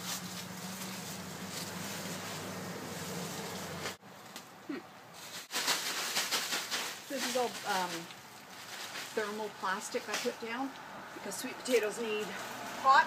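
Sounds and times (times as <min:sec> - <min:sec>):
rustle of handling: 0:00.0 - 0:10.9.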